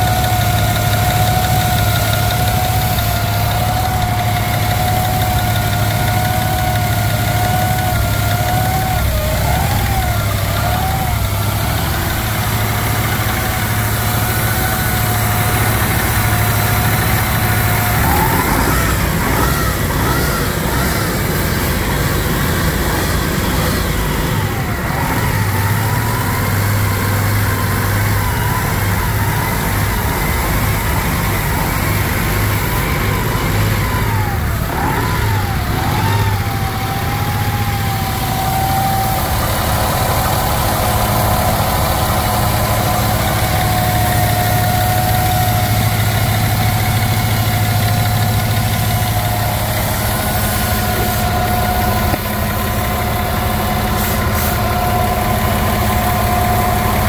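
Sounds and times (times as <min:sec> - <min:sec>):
engine idling: 0:00.0 - 0:57.0
wavering whine: 0:00.0 - 0:57.0.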